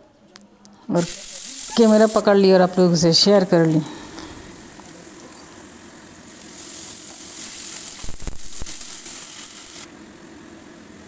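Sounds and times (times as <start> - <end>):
onions sizzling in hot oil: 1.0 - 11.0.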